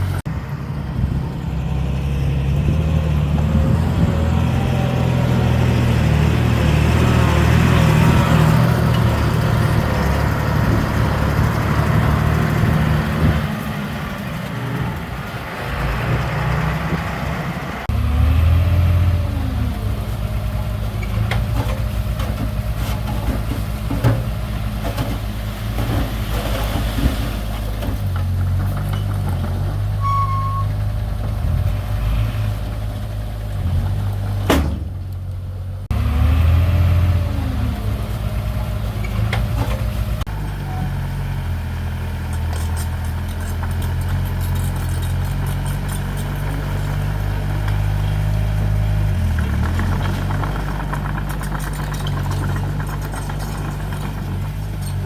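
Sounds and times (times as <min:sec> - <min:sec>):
diesel earthmoving machinery droning: 0:00.0 - 0:55.0.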